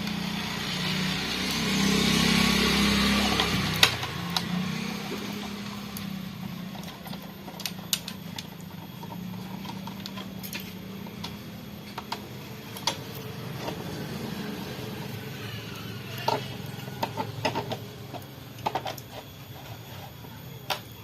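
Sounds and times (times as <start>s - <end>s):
steady low hum: 0.0s - 21.0s
hand tools clicking on metal: 1.4s - 21.0s.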